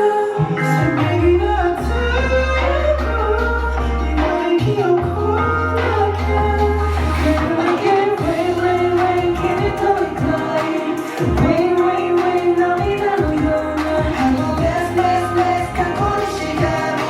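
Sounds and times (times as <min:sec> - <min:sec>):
pop dance track with singing: 0:00.0 - 0:17.0.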